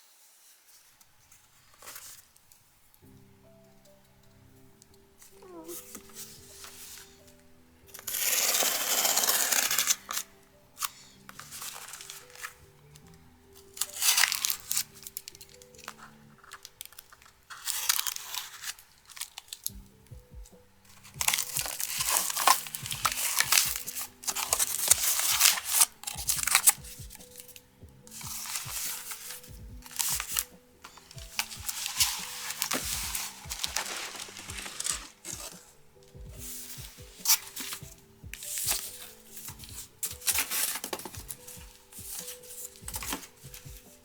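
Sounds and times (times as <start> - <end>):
packaging crinkling and tearing: 5.2 - 44.0.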